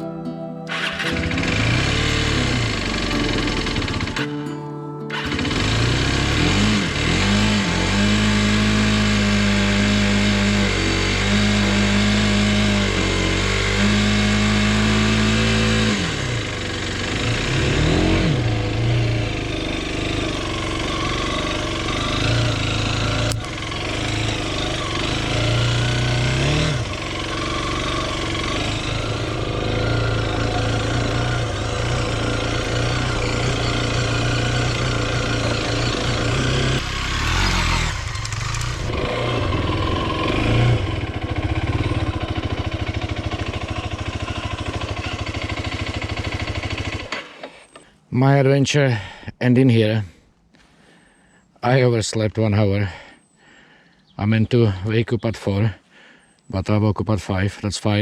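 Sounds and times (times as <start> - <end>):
motorcycle engine running: 0.7 - 4.5, 5.1 - 47.8.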